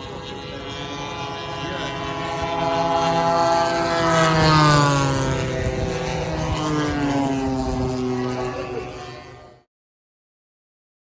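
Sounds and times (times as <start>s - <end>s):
model plane flying by: 0.0s - 9.7s.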